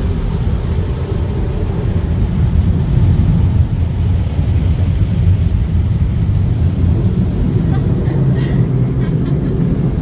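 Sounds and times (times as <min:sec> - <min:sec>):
car wash low rumble: 0:00.0 - 0:10.0.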